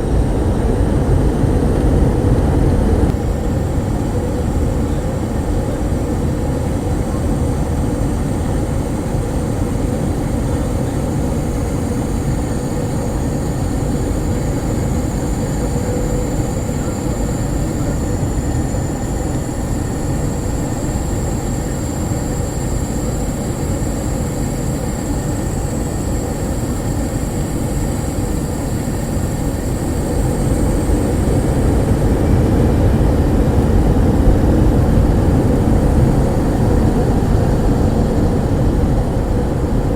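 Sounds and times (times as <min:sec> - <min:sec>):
faint high whine: 0:00.0 - 0:39.9
jet engine cabin rumble: 0:00.0 - 0:39.9.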